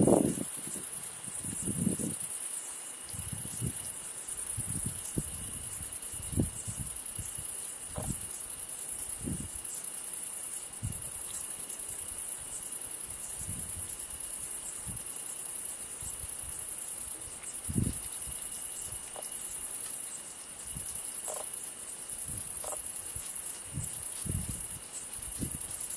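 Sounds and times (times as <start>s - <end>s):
crickets chirring: 0.0s - 25.9s.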